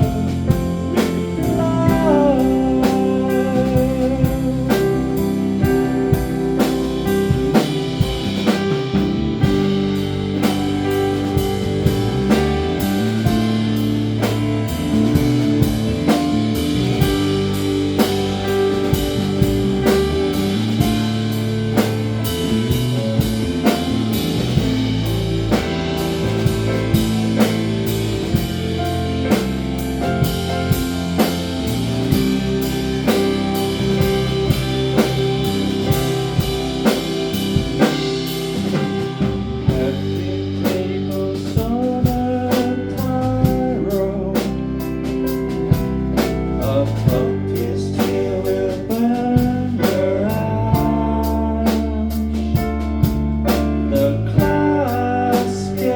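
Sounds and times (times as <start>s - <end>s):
drum kit beat: 0.0s - 55.9s
electric guitar: 0.0s - 55.9s
live band playing blues rock: 0.0s - 55.9s.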